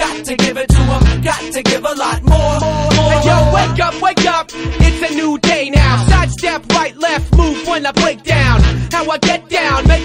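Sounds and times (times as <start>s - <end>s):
music with strong bass beat: 0.0s - 10.0s.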